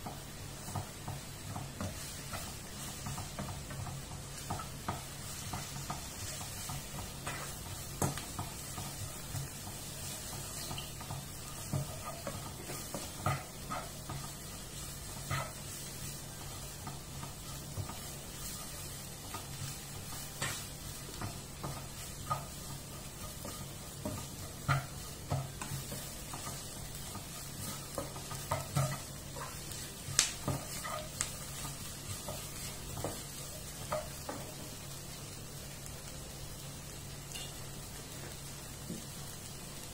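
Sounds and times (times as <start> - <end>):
vegetables sizzling in a frying pan: 0.0 - 39.9.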